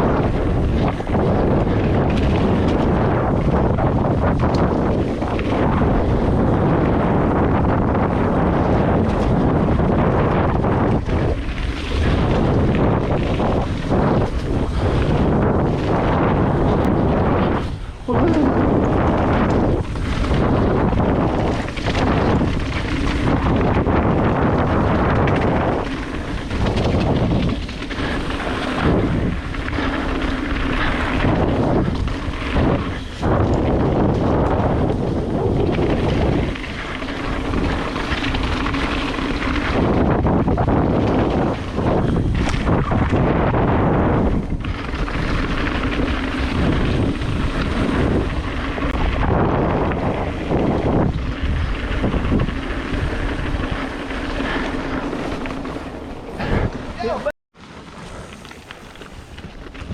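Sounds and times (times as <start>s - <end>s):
bike tyre roar and rattle: 0.0s - 59.9s
wind buffeting microphone: 0.0s - 59.9s.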